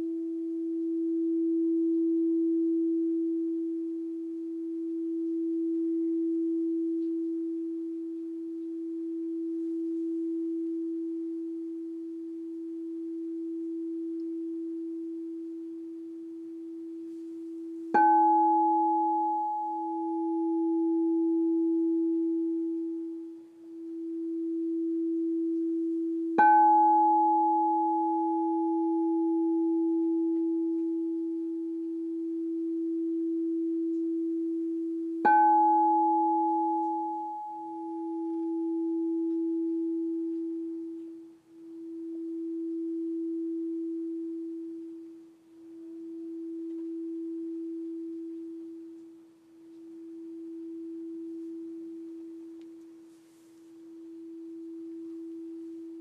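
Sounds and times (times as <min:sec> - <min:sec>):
crystal singing bowl ringing: 0:00.0 - 0:56.0.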